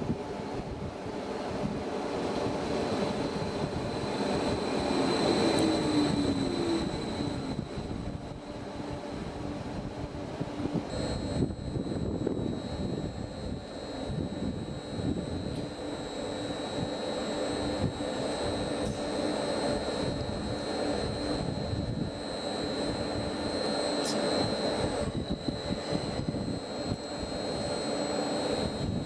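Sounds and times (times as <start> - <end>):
railcar low rumble: 0.0 - 27.6
high whine: 0.0 - 29.0.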